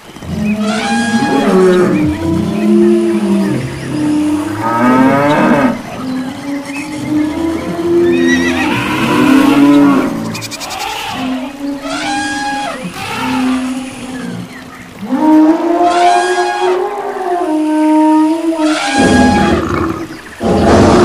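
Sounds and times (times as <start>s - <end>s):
animal calls: 0.0s - 21.0s
cattle mooing: 0.2s - 14.3s, 15.0s - 20.9s.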